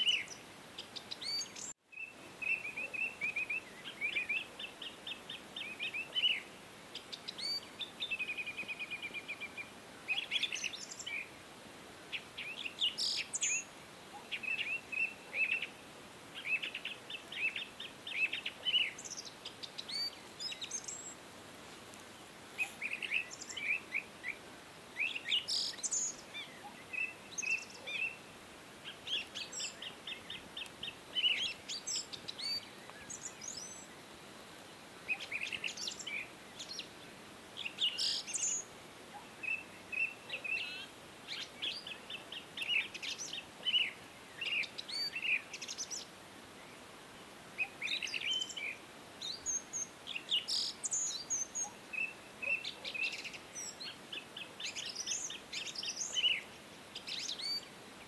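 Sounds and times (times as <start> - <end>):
small birds chirping and trilling: 0.0 - 11.4, 12.1 - 58.0
faint steady hiss: 0.0 - 58.0.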